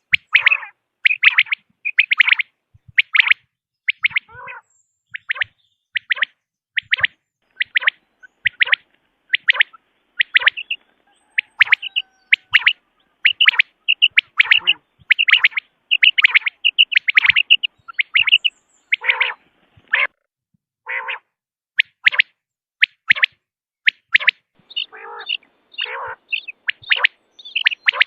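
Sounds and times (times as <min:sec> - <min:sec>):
quail calling: 0:00.0 - 0:20.2, 0:20.8 - 0:28.0.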